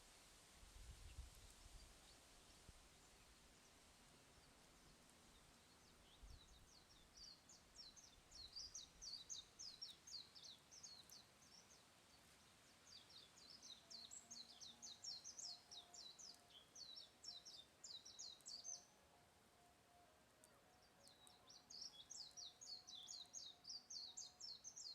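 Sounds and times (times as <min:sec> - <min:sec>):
songbird singing high chirps: 0:01.1 - 0:19.2, 0:19.9 - 0:24.9.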